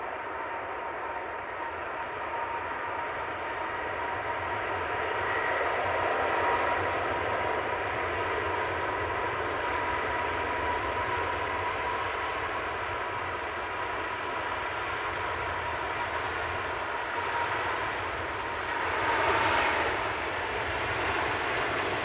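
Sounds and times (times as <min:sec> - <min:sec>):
jet engines running at low power: 0:00.0 - 0:22.0.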